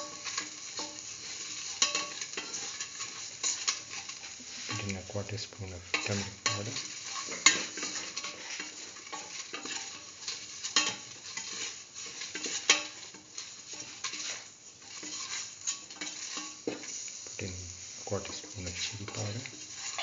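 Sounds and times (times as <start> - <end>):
spatula clinking against metal: 0.0 - 5.0, 5.9 - 17.2
spatula scraping metal pan: 0.0 - 17.2, 18.2 - 20.0
light sizzle of frying: 0.0 - 20.0.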